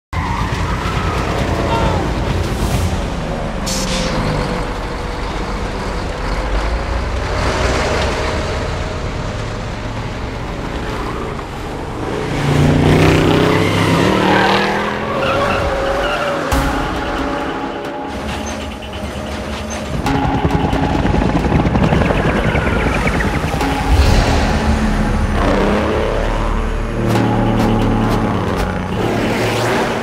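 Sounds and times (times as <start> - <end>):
car engines driving fast: 0.2 - 30.0
tyres skidding: 0.2 - 30.0.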